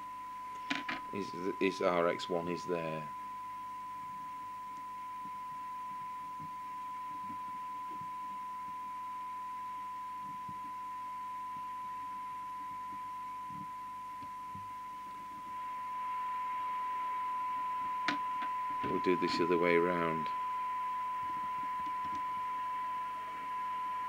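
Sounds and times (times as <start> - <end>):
steady test tone: 0.0 - 24.0.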